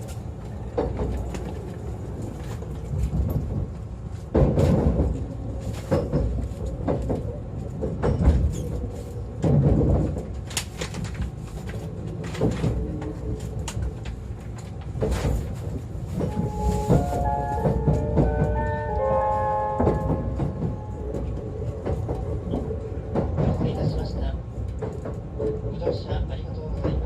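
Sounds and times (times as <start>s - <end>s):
train interior rumble: 0.0s - 27.0s.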